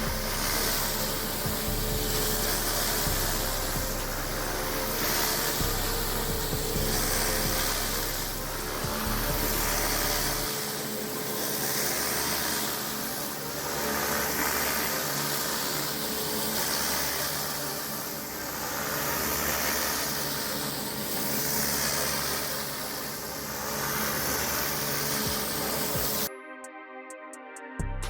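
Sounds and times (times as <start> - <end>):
hiss of water spray: 0.0 - 26.3
pressure washer engine running: 0.0 - 26.3.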